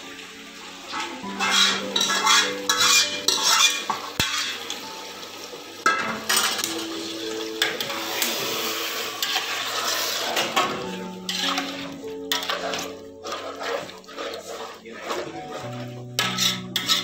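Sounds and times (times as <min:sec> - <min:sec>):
metal ladle scraping pots: 0:01.2 - 0:04.8, 0:05.9 - 0:06.9, 0:07.6 - 0:17.0.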